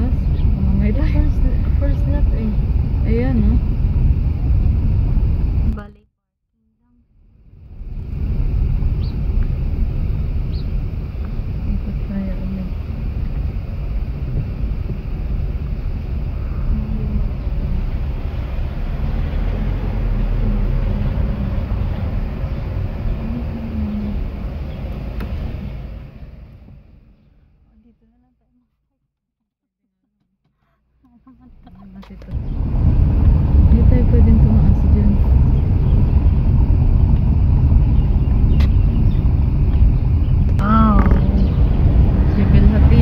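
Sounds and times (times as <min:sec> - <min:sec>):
wind buffeting microphone: 0:00.0 - 0:05.8, 0:07.5 - 0:26.9, 0:31.5 - 0:43.0
car engine and road rumble: 0:00.0 - 0:05.9, 0:07.2 - 0:27.9, 0:31.0 - 0:43.0
faint hum: 0:00.0 - 0:06.1, 0:06.7 - 0:28.6, 0:30.6 - 0:43.0.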